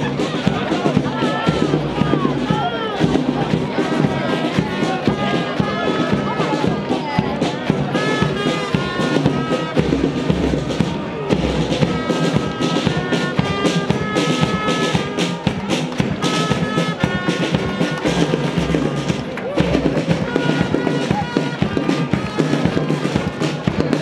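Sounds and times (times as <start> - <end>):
marching drums: 0.0 - 24.0.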